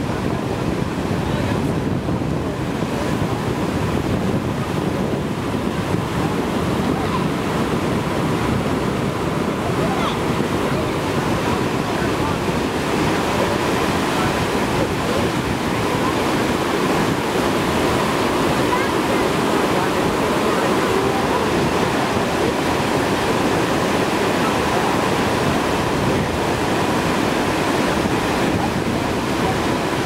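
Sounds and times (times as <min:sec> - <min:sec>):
whitewater rushing: 0:00.0 - 0:30.0.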